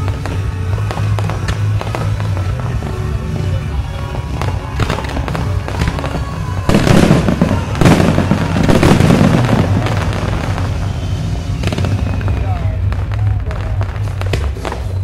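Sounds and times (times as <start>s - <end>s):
firework bangs: 0.0s - 15.0s
fireworks crackling and popping: 0.0s - 15.0s.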